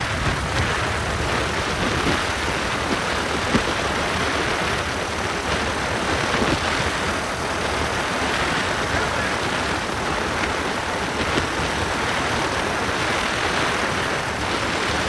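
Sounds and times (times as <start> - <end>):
motorbike road and engine noise: 0.0 - 15.0
wind on microphone: 0.0 - 15.0.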